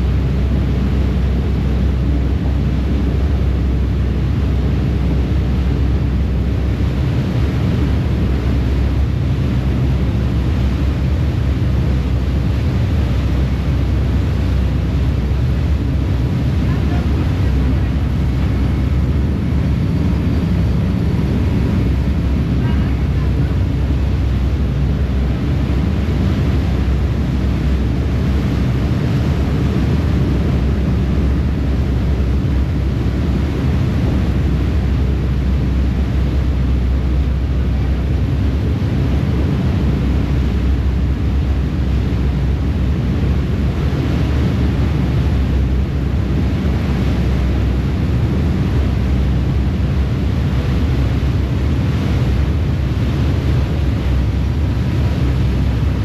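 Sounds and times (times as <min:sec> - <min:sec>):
churning wake: 0:00.0 - 0:56.0
ferry engine rumble: 0:00.0 - 0:56.0
wind buffeting microphone: 0:00.0 - 0:56.0.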